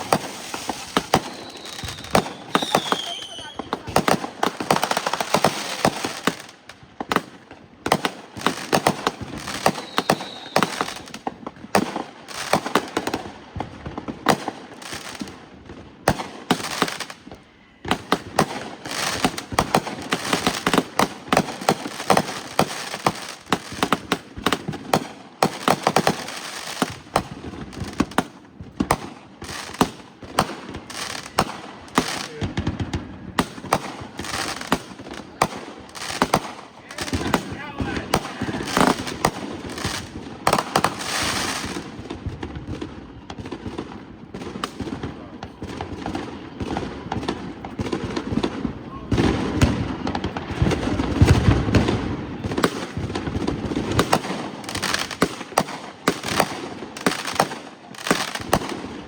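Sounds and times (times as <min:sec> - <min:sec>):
fireworks popping and banging: 0:00.0 - 0:59.0.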